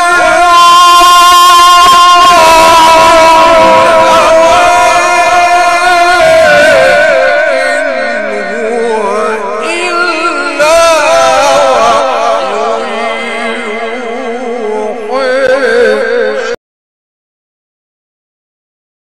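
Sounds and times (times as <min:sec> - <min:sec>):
man reciting melodically: 0:00.0 - 0:16.6.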